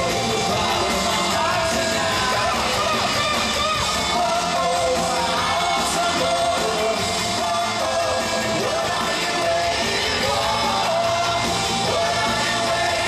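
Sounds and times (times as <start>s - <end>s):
live pop instrumental backing: 0.0s - 13.0s
male singers singing: 0.0s - 13.0s.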